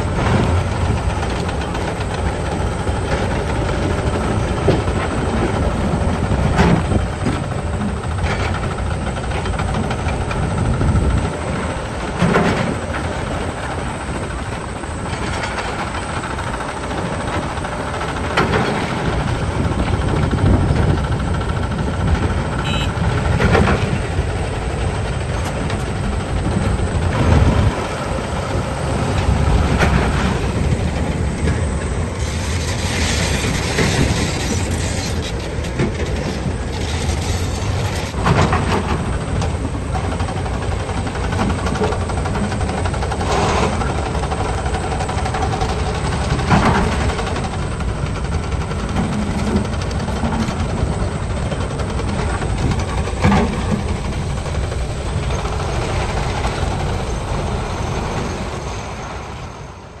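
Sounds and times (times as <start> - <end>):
heavy diesel engines running: 0.0 - 60.0.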